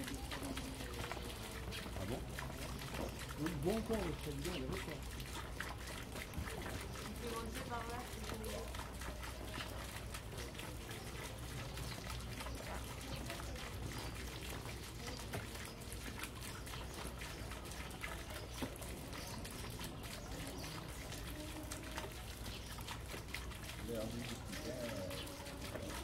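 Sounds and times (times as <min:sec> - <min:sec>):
faint voices: 0:00.0 - 0:26.0
fountain trickling into pond: 0:00.0 - 0:26.0.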